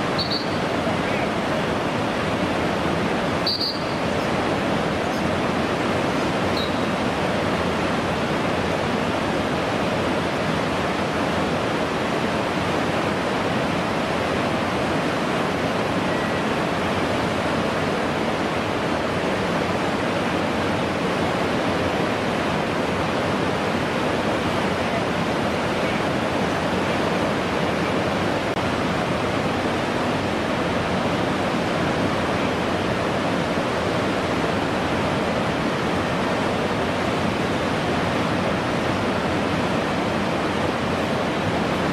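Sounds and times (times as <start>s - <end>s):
whitewater rapids rushing: 0.0s - 41.9s.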